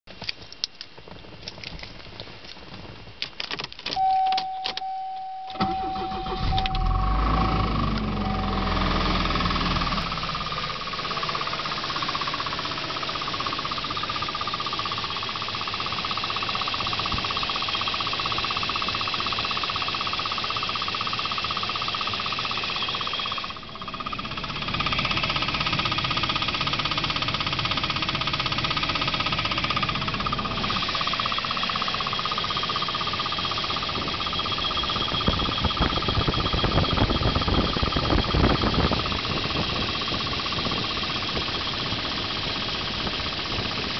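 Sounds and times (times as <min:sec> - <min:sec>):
car engine idling: 0:04.0 - 0:43.9
rapid engine knocking: 0:07.8 - 0:43.9.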